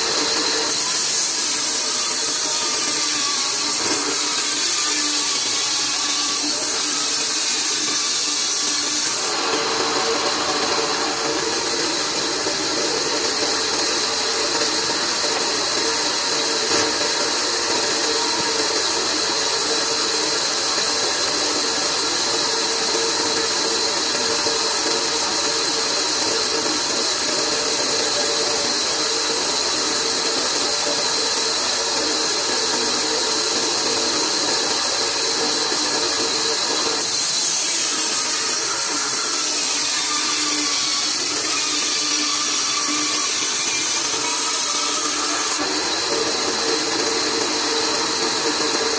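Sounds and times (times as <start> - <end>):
band saw running: 0.0 - 48.9.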